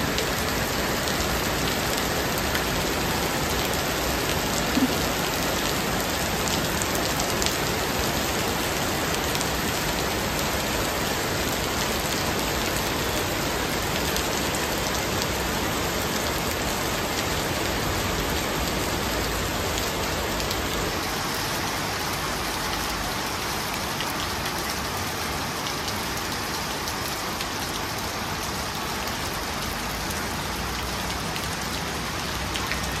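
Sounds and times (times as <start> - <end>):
heavy rain on wet street: 0.0 - 33.0.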